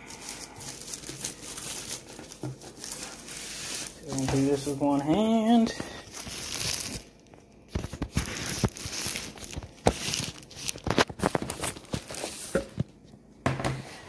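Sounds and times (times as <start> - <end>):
plastic sleeve crinkling: 0.0 - 13.0.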